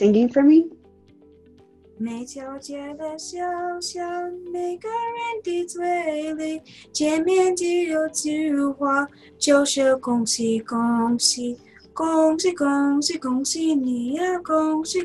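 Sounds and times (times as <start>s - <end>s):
girl singing: 2.0s - 15.0s.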